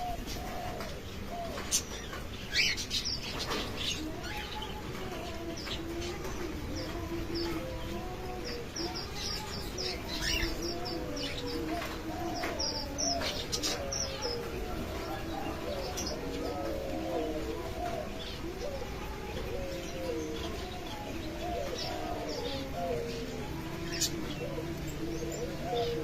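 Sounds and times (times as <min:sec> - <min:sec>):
pigeons cooing: 0:00.0 - 0:26.0
small birds chirping: 0:00.0 - 0:26.0.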